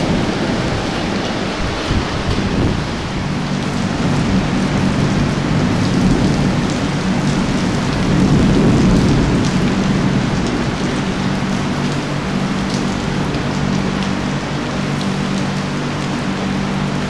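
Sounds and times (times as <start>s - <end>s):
rumble of thunder: 0.0s - 16.2s
heavy rain on metal roofs: 0.0s - 17.0s.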